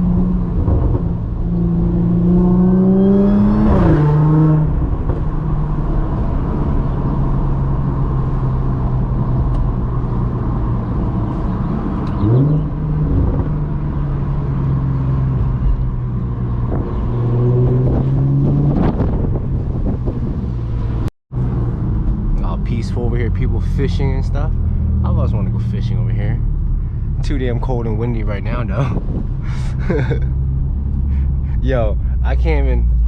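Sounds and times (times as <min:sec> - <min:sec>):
car engine exhaust cruising: 0:00.0 - 0:33.0.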